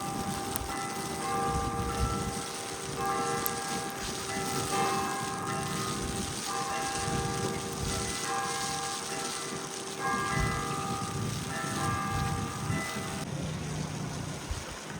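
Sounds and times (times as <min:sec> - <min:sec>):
church bells ringing: 0:00.0 - 0:13.3
city noise hiss: 0:00.0 - 0:14.9.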